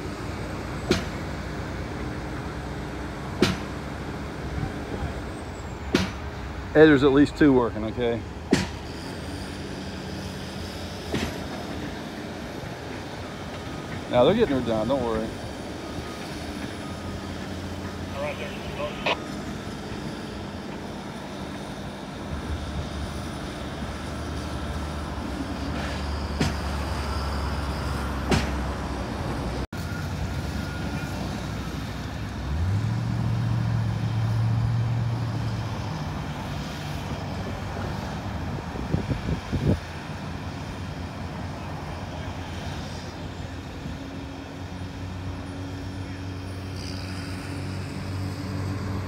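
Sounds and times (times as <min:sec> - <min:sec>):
excavator diesel engines running: 0:00.0 - 0:49.0.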